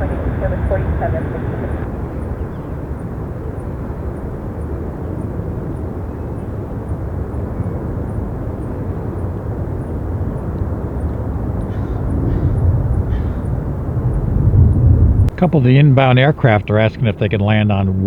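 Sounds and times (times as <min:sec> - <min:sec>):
jet airliners rumbling: 0:00.0 - 0:18.0
wind buffeting microphone: 0:00.0 - 0:18.0.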